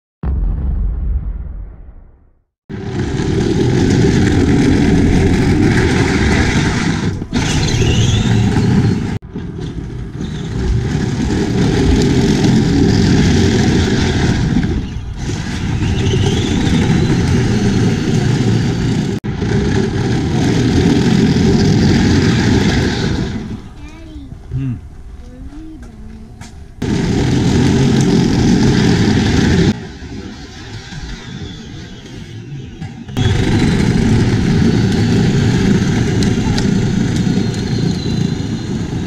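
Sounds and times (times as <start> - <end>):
ride-on toy wheels rumbling: 2.7 - 24.5, 25.1 - 39.0.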